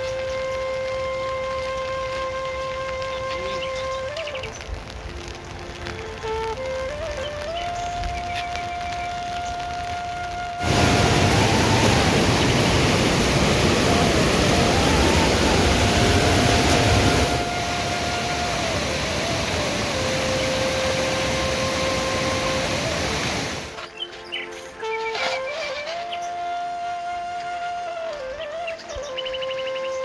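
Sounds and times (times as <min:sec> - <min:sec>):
water rushing: 0:00.0 - 0:29.1
slow flute melody: 0:00.0 - 0:30.0.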